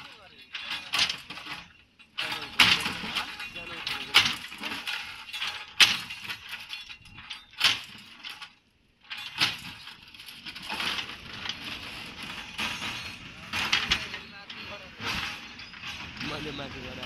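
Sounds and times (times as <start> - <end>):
falling debris rattle: 0.0 - 17.0
rubble crashing and clattering: 0.0 - 17.0.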